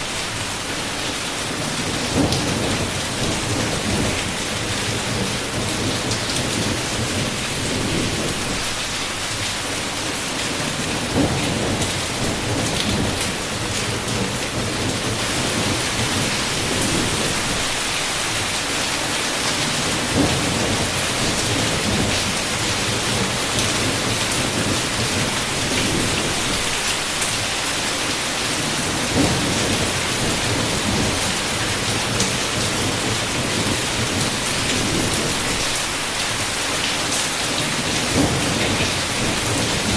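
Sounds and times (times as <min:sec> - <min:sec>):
heavy rain on a window: 0:00.0 - 0:39.9
thunder rumbling: 0:01.5 - 0:09.0, 0:10.6 - 0:18.0, 0:19.7 - 0:27.5, 0:28.6 - 0:36.4, 0:37.5 - 0:39.9.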